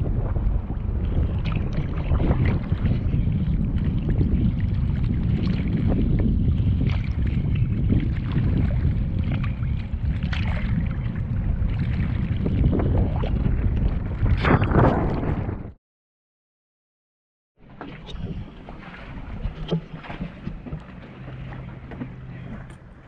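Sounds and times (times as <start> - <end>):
waves lapping and splashing: 0.0 - 14.9, 17.6 - 23.0
wind buffeting microphone: 0.0 - 15.8, 17.6 - 23.0.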